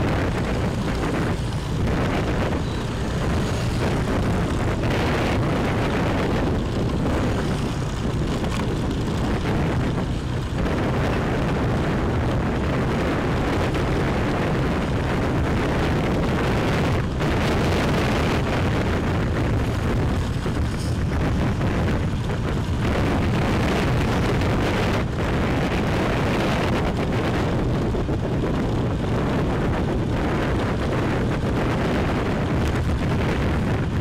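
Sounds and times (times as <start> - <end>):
motorbike engine and road noise: 0.0 - 34.0
wind buffeting microphone: 0.0 - 34.0.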